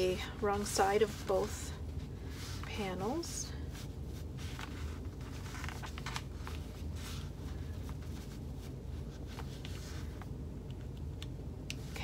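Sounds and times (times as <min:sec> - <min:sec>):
low steady hum: 0:00.0 - 0:12.0
paper rustling: 0:00.6 - 0:10.3.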